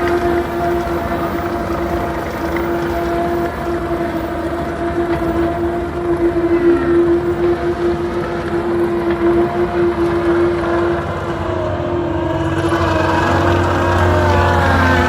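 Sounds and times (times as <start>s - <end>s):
diesel loader engine revving: 0.0s - 15.0s.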